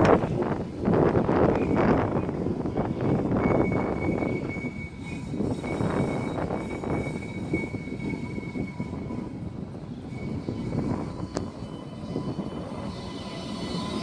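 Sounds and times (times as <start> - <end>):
tram wheel and running noise: 0.0 - 14.0.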